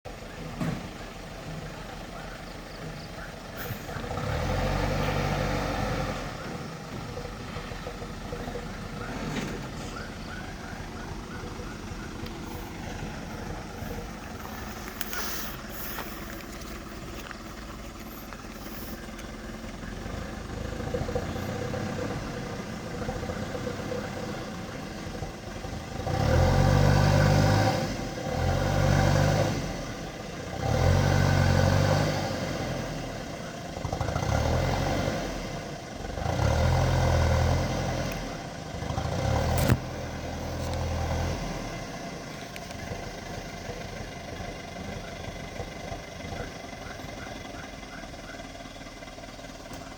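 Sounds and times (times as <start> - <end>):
heavy equipment engine revving: 0.1 - 49.9.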